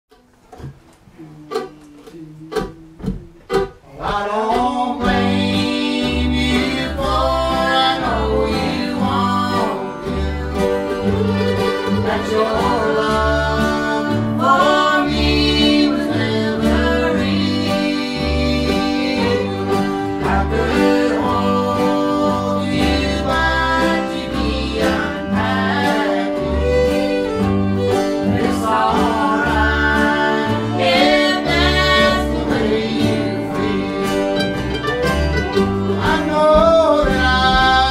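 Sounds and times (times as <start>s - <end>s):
bluegrass string band: 0.1s - 37.9s
voices singing: 1.1s - 37.9s.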